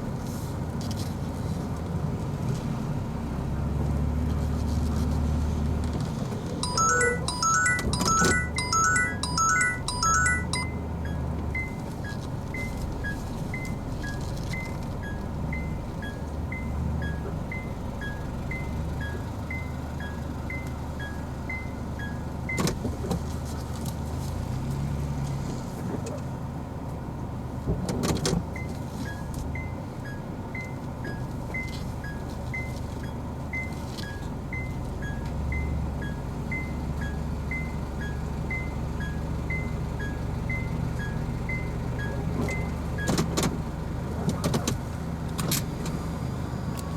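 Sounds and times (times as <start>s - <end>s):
car engine low hum: 0.0s - 46.9s.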